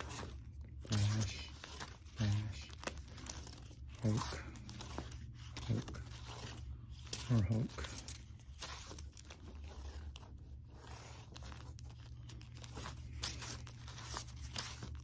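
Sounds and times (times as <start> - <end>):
plastic sleeves rustling and crinkling: 0.0 - 15.0.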